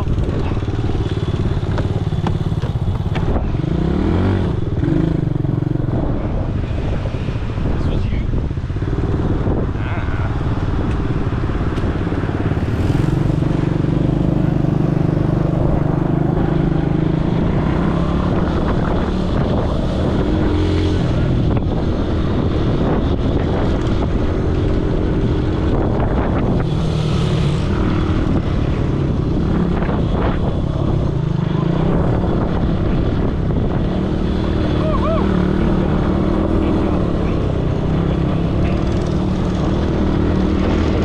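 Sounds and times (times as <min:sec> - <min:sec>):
atv engine running: 0:00.0 - 0:41.0
dense rushing noise: 0:00.0 - 0:41.0.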